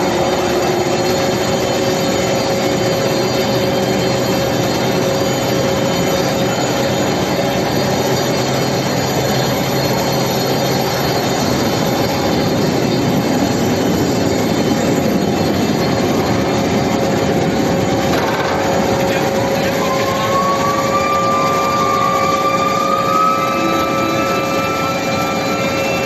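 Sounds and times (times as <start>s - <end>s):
constant whine: 0.0s - 26.0s
furnace line mechanical noise: 0.0s - 26.0s.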